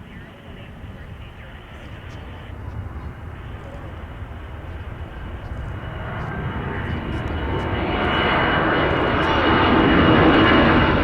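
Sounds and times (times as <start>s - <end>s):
high fan whine: 0.0s - 11.0s
jet engines rushing: 0.0s - 11.0s.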